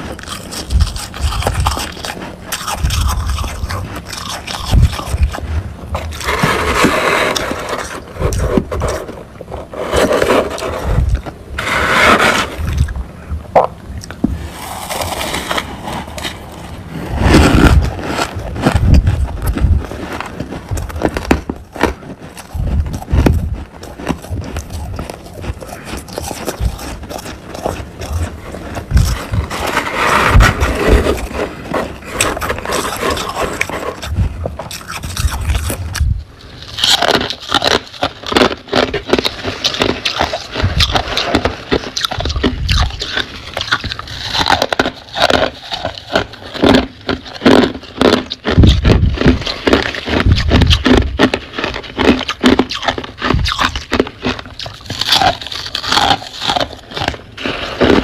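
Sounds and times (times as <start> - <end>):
crunchy frost being scraped and bitten: 0.0 - 13.1, 14.1 - 58.0.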